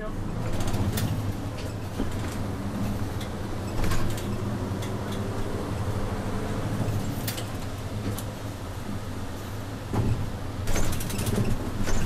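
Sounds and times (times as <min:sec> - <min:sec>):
bus engine humming: 0:00.0 - 0:12.0.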